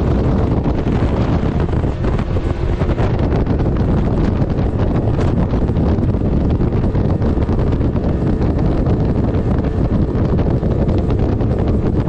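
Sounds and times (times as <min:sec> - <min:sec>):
boat motor running slowly: 0:00.0 - 0:12.0
wind buffeting microphone: 0:00.0 - 0:12.0.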